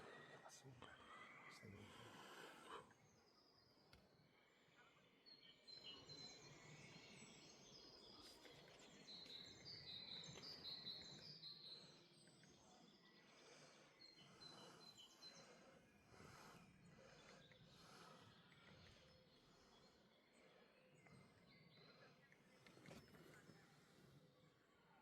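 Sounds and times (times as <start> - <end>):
small birds chirping and whistling: 0.0 - 24.4.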